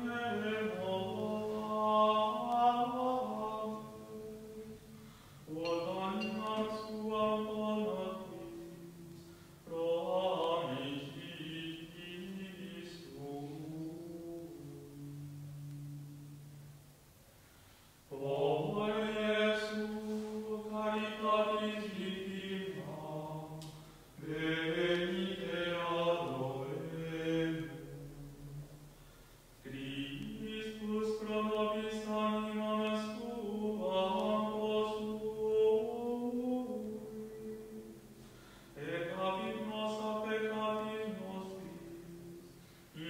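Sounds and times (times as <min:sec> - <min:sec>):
slow liturgical chant: 0:00.0 - 0:43.0.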